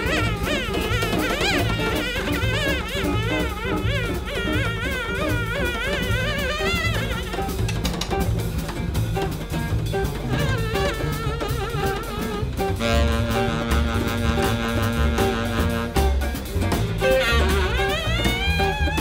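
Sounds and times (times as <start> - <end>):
double bass: 0.0 - 19.0
drum kit: 0.0 - 19.0
guitar: 0.0 - 19.0
saxophone trilling: 0.0 - 19.0.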